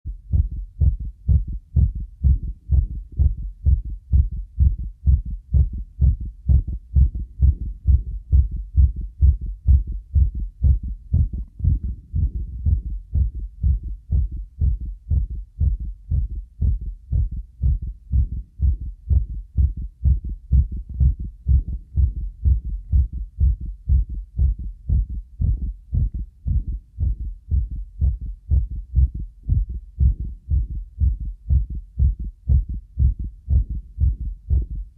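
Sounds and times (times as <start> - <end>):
heartbeat: 0.0 - 34.9.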